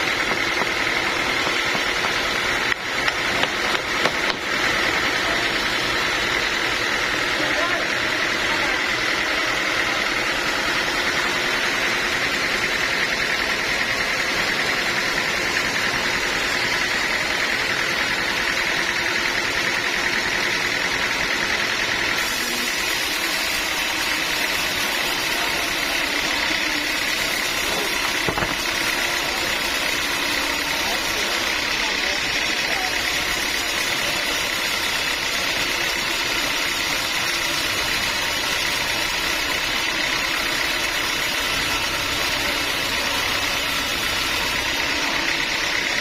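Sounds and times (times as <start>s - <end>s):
sawmill machinery running: 0.0s - 46.0s.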